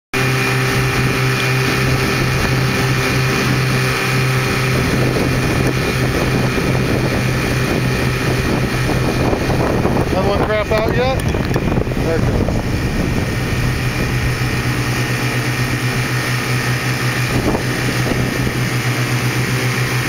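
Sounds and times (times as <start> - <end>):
outboard motors running: 0.1 - 20.0.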